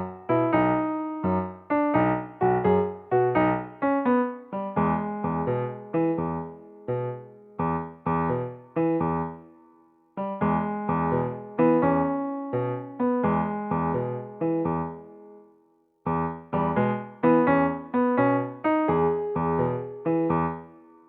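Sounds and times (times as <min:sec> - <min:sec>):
electric piano music: 0:00.0 - 0:21.0.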